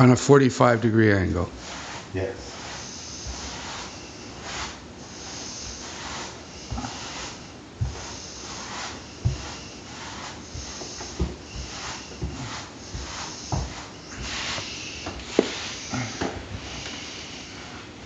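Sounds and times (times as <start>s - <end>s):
grout float scraping tile: 1.3s - 17.8s.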